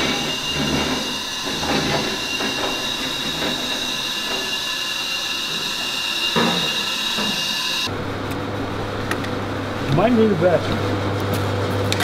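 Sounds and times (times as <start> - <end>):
car lift hissing and whining: 0.0 - 9.9.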